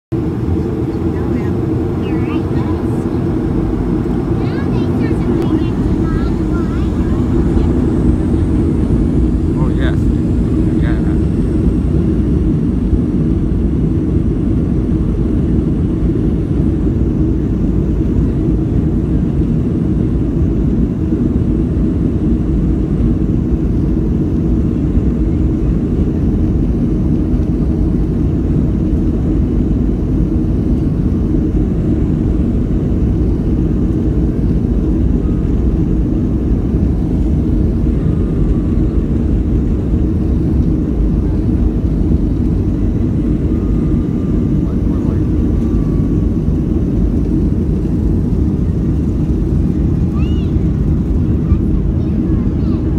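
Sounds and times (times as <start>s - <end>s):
jet engines droning at idle: 0.1s - 52.9s.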